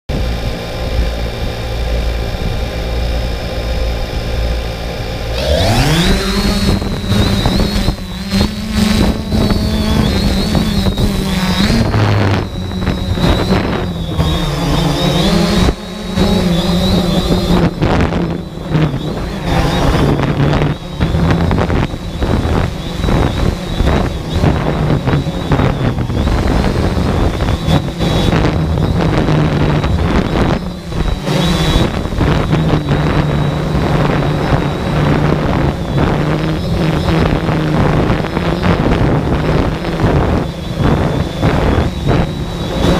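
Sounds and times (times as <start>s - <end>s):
drone motors whining: 0.1s - 42.9s
wind noise on microphone: 0.1s - 42.9s.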